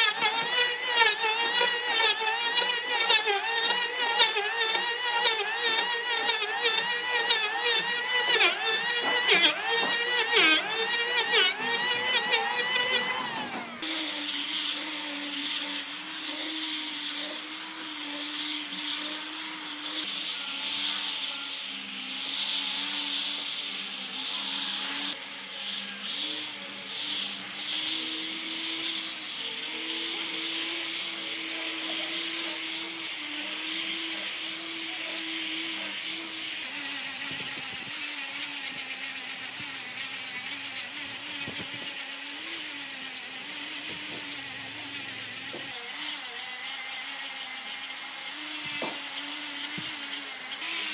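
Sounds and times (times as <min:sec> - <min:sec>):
electric power tool running: 0:00.0 - 0:50.9.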